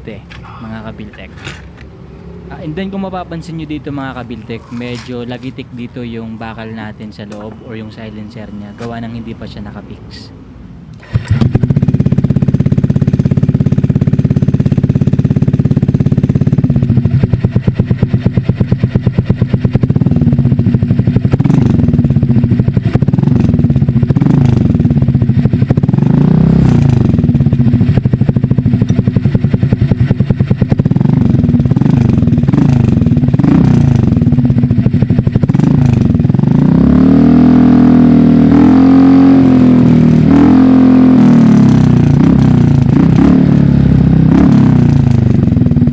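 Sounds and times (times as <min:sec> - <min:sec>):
scooter engine idling and revving: 0:00.0 - 0:09.9, 0:10.9 - 0:45.9.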